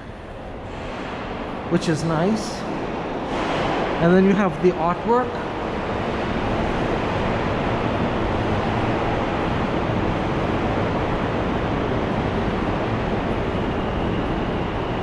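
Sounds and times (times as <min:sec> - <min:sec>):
subway station rumble: 0:00.0 - 0:15.0.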